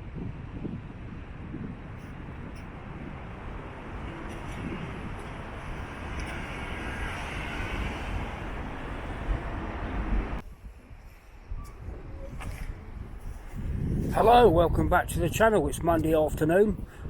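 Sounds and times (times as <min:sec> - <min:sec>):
rushing outdoor background: 0:00.0 - 0:17.0
wind buffeting microphone: 0:00.0 - 0:17.0.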